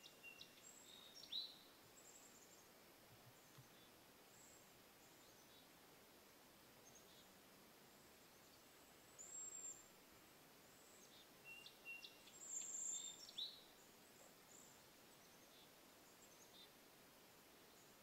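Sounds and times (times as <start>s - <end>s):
outdoor hiss: 0.0s - 18.0s.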